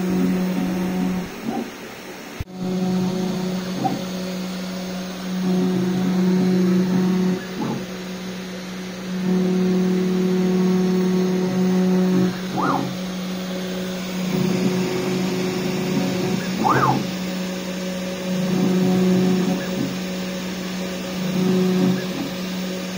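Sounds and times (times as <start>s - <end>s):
cnc router motor hum: 0.0s - 22.9s
machine whine rising and falling: 0.0s - 22.9s.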